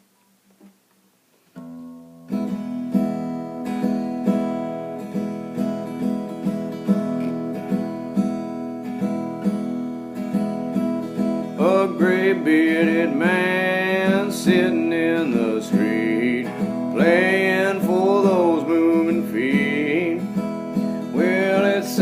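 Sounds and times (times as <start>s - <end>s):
acoustic guitar strumming: 1.6s - 22.0s.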